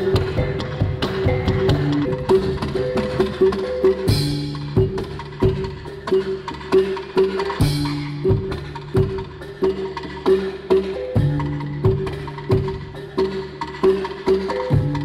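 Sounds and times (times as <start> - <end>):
wooden percussion strikes: 0.0 - 15.0.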